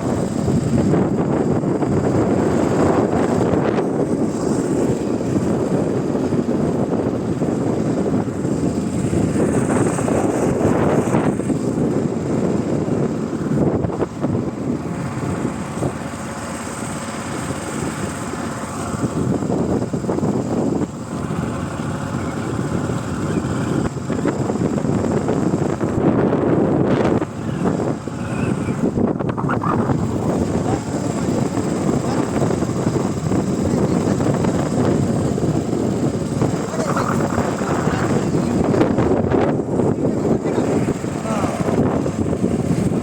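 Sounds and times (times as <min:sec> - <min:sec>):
motorboat engine running: 0:00.0 - 0:43.0
wind on microphone: 0:00.0 - 0:43.0.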